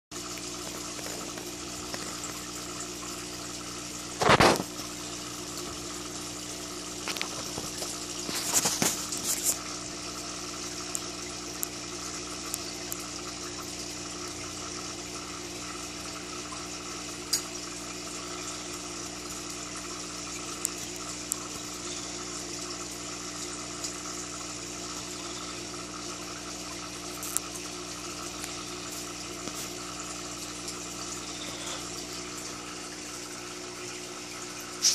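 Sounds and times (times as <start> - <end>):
filter water running: 0.1 - 34.9
steady hum: 0.2 - 34.9.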